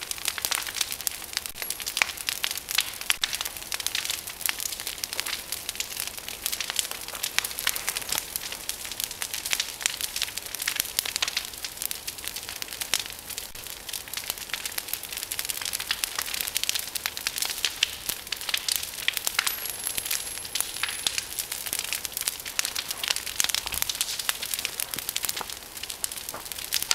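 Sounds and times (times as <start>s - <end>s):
branches burning crackling: 0.0s - 26.9s.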